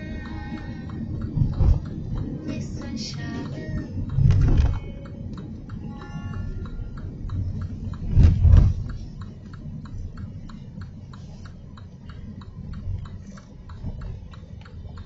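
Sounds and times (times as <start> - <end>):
car cabin rumble: 0.0 - 15.0
steady ticking: 0.0 - 15.0.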